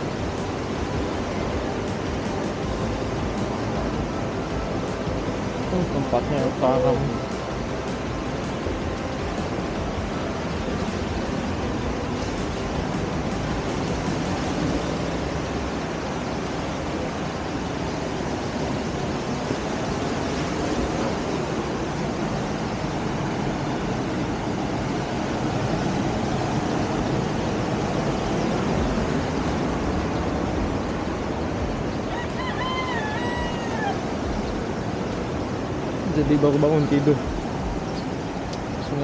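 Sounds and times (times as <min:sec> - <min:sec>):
ocean surf washing onto beach: 0:00.0 - 0:39.0.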